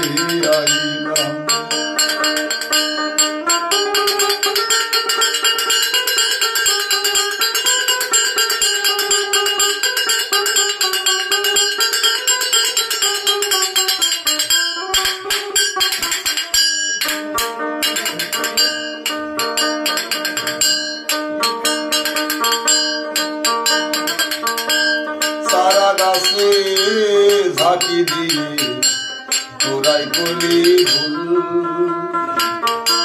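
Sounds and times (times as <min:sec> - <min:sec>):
plucked string instrument fast melody: 0:00.0 - 0:33.0.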